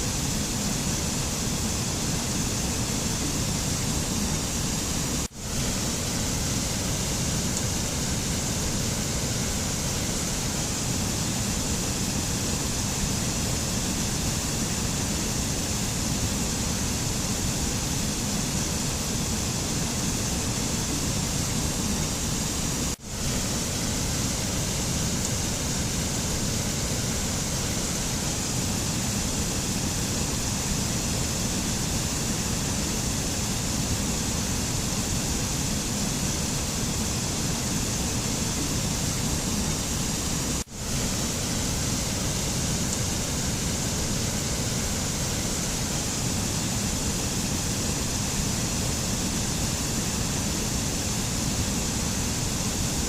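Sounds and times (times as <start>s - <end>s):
steady rushing nature noise: 0.0s - 53.0s.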